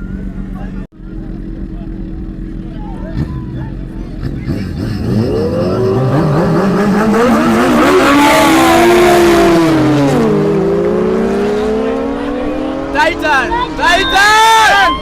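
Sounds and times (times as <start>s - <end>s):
superbike engines accelerating: 0.0s - 15.0s.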